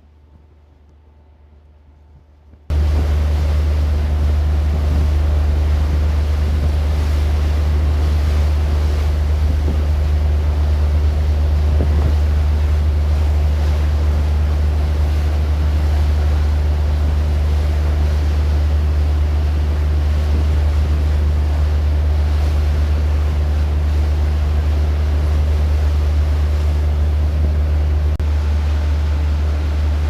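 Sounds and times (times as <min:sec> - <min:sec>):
ferry engines droning: 0:00.0 - 0:30.0
wind on microphone: 0:00.0 - 0:30.0
water rushing along hull: 0:02.7 - 0:30.0.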